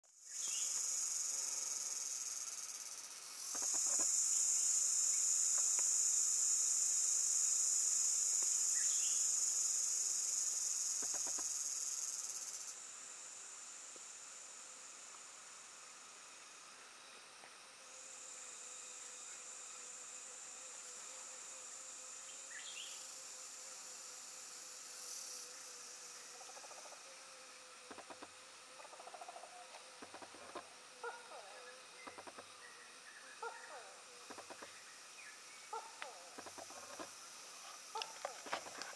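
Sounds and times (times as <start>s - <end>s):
crickets chirring: 0.1s - 38.9s
insect chorus buzzing: 0.1s - 38.9s.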